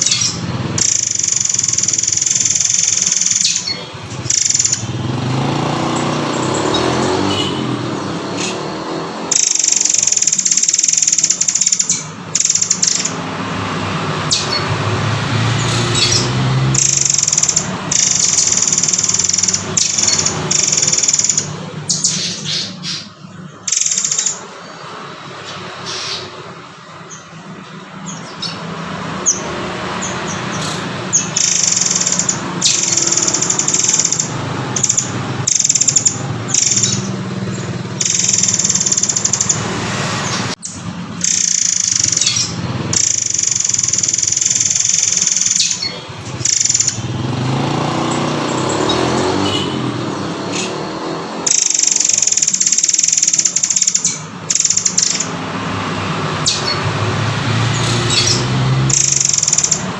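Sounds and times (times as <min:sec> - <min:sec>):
songbird high-pitched calls: 0:00.0 - 0:59.9.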